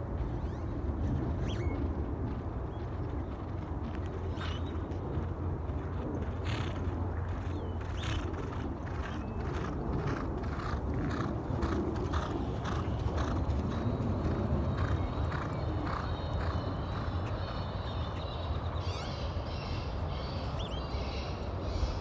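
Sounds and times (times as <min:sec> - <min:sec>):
horses galloping hoofbeats: 0:00.0 - 0:19.6
steady low rumble: 0:00.0 - 0:22.0.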